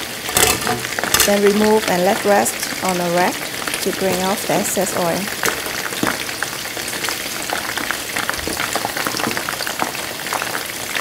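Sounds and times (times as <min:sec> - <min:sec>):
oil bubbling with crackles and pops: 0:00.0 - 0:11.0.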